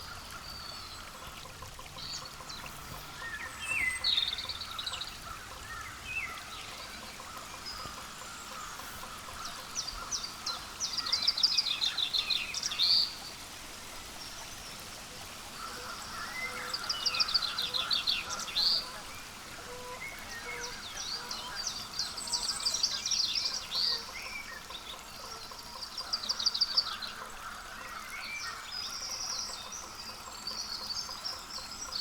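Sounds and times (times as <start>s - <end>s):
songbirds calling: 0.0s - 13.4s, 15.5s - 32.0s.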